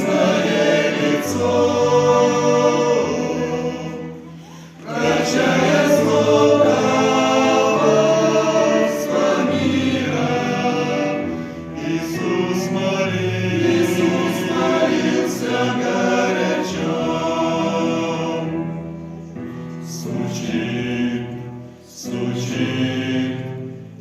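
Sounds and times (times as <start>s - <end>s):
men's choir singing a hymn: 0.0s - 24.0s.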